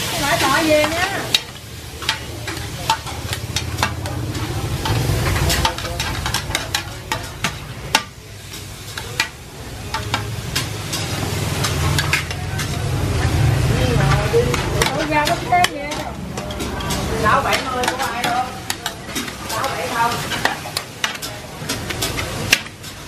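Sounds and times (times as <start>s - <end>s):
beef and onions sizzling: 0.0s - 23.0s
metal spatula scraping a pan: 0.0s - 23.0s.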